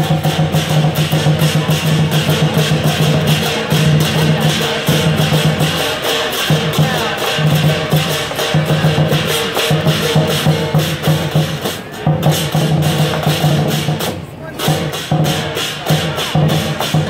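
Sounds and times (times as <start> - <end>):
cymbals clashing: 0.0 - 17.0
large drum beating fast: 0.0 - 17.0.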